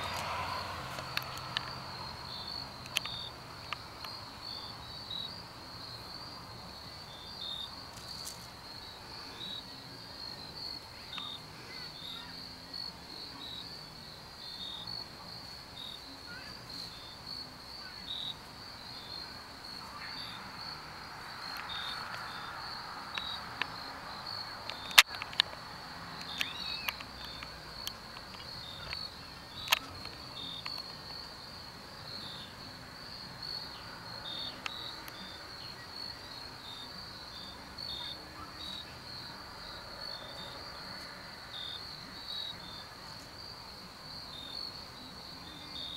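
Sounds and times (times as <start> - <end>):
short insect chirps: 0.0 - 13.8, 15.8 - 43.3
insects trilling: 0.0 - 45.9.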